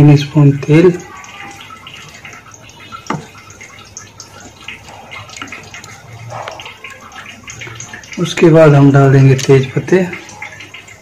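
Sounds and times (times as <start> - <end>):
oil sizzling with small crackles: 0.0 - 11.0.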